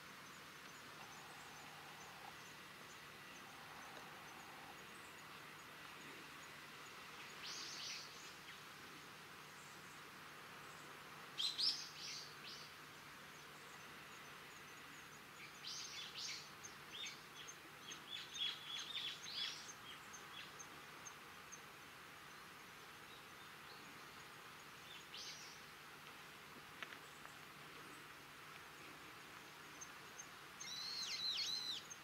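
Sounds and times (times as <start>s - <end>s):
faint outdoor hiss: 0.0s - 32.0s
wild birds calling: 0.1s - 25.8s, 26.9s - 32.0s.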